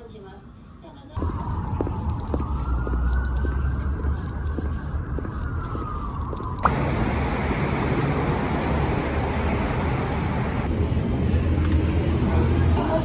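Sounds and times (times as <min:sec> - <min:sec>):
distant siren wailing: 0:01.2 - 0:12.9
traffic noise: 0:01.2 - 0:13.0.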